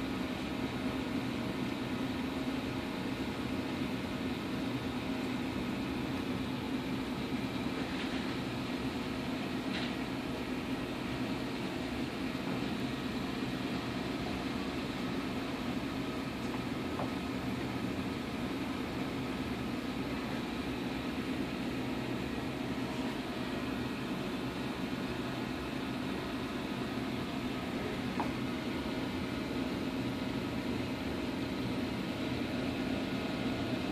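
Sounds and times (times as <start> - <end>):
steady mechanical hum: 0.0 - 33.9.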